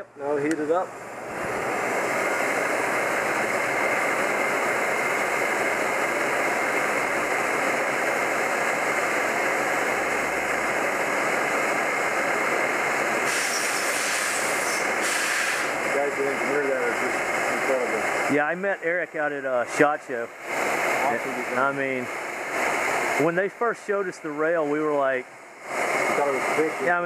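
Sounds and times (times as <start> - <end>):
heat gun fan blowing: 0.0 - 27.0
higher hiss: 0.0 - 27.0.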